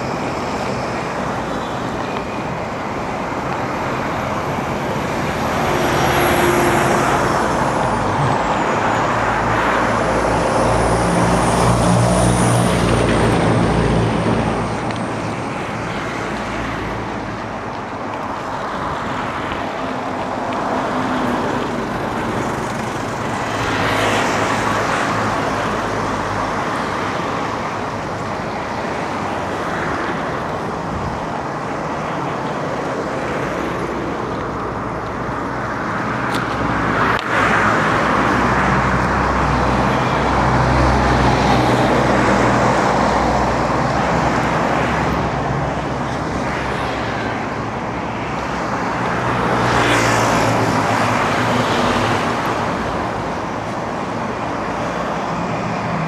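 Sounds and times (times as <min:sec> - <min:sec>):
passing vehicle engine hum: 0:00.0 - 0:56.0
road traffic rushing: 0:00.0 - 0:56.0.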